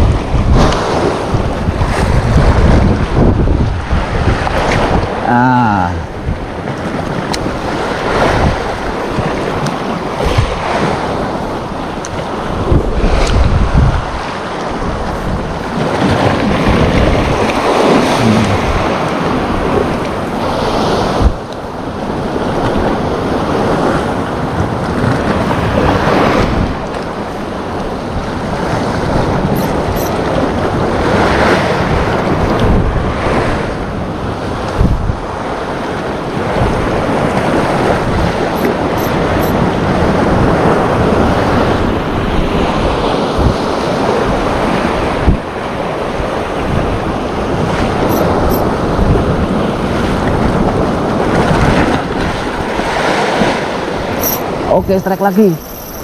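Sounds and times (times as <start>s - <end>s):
wind buffeting microphone: 0.0s - 5.4s, 6.0s - 56.0s
sea waves washing onto shore: 0.0s - 56.0s.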